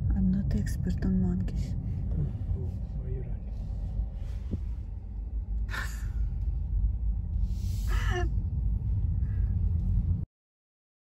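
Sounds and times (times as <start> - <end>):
car driving slowly: 0.0 - 10.3.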